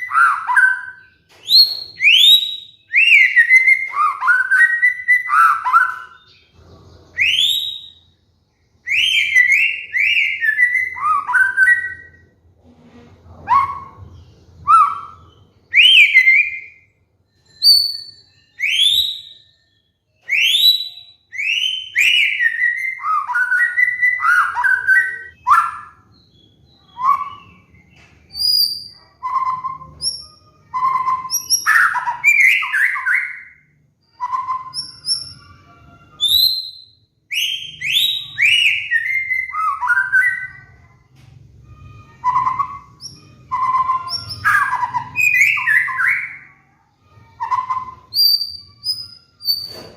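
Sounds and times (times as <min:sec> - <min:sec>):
bird singing whistled phrases: 0:00.0 - 0:08.2, 0:08.8 - 0:12.4, 0:13.3 - 0:41.0, 0:41.6 - 0:49.9.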